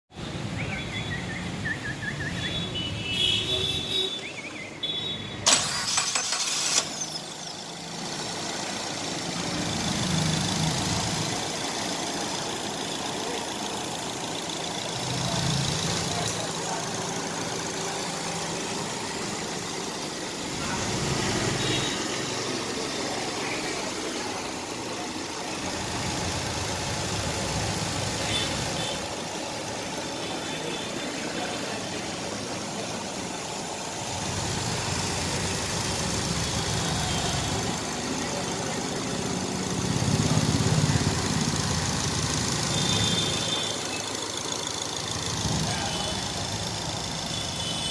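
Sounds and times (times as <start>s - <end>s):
car engine starting and idling: 4.5s - 47.9s.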